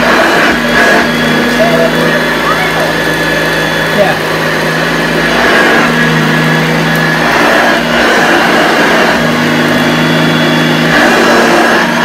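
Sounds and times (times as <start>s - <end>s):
vacuum cleaner on rug: 0.0s - 12.0s.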